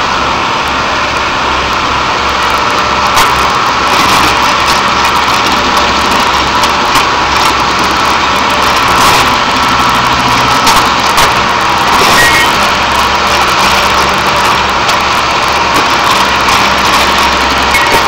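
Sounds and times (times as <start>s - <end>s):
machine engine hum: 0.0s - 18.0s.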